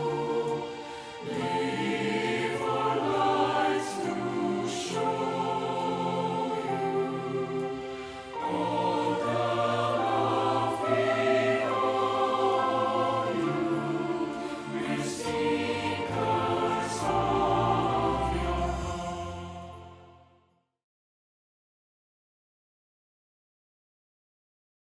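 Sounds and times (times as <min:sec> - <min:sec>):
choir singing gospel chords: 0:00.0 - 0:20.5.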